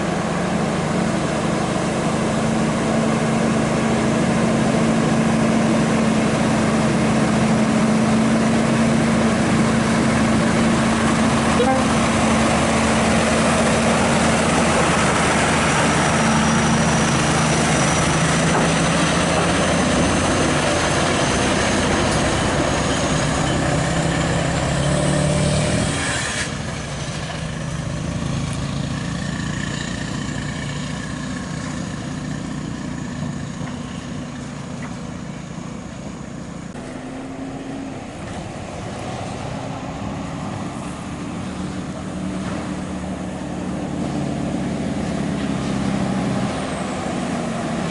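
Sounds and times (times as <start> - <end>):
diesel truck engine under load: 0.0 - 47.9
rising engine whine: 0.0 - 47.9.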